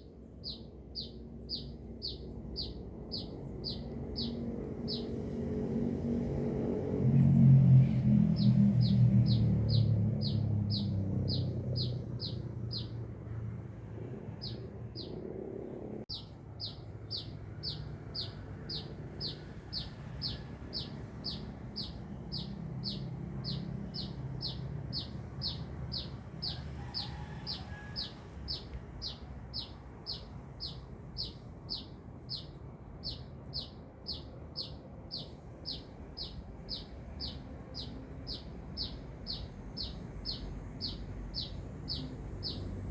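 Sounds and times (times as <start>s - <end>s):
sunbird chirping: 0.0s - 5.4s, 8.3s - 13.0s, 14.3s - 15.3s, 16.1s - 42.9s.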